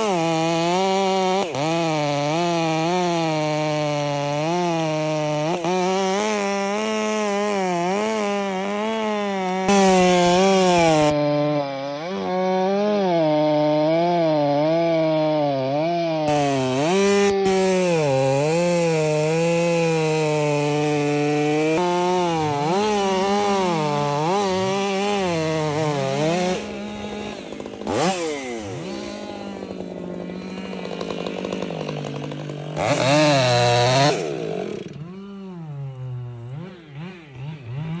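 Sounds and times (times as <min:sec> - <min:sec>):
chainsaw cutting wood: 0:00.0 - 0:38.0.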